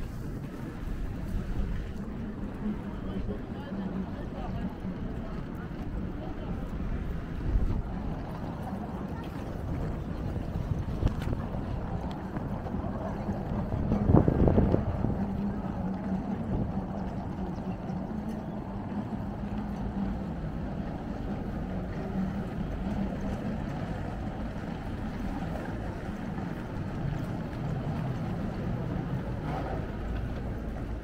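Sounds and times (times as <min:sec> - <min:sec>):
outdoor background rumble: 0:00.0 - 0:31.0.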